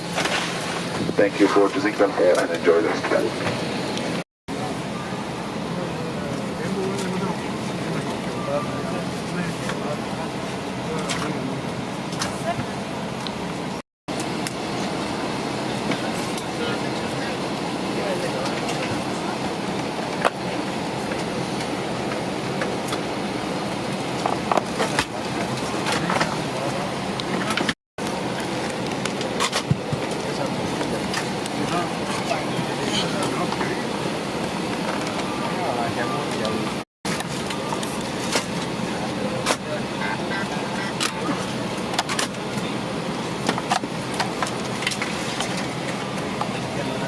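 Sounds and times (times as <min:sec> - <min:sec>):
airliner cabin air rush: 0:00.0 - 0:47.0.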